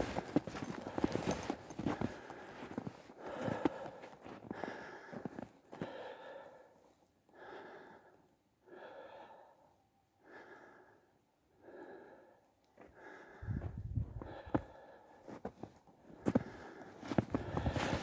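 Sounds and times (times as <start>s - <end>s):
person breathing hard: 0.8s - 15.4s, 16.3s - 18.0s.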